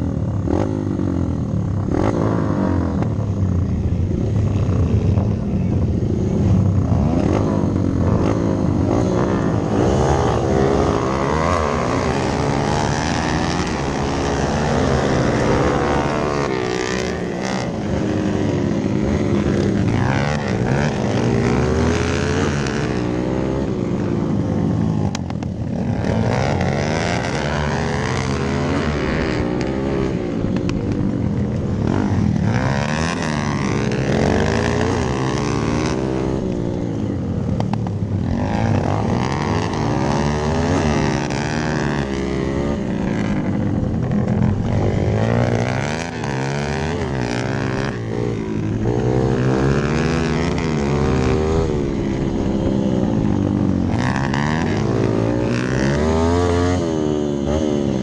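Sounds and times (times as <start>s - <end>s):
dirt bike engine revving: 0.0s - 58.0s
wind noise on microphone: 0.0s - 58.0s.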